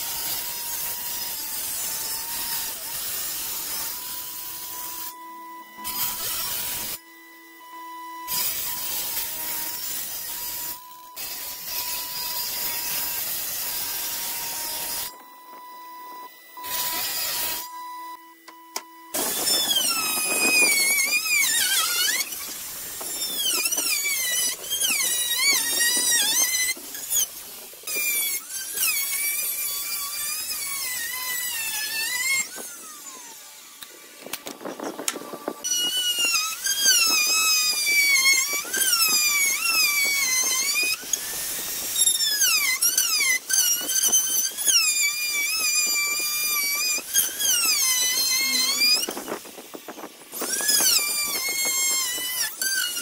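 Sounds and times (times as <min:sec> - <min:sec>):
router squealing whine: 0:00.0 - 0:53.0
table saw cutting wood: 0:00.0 - 0:53.0.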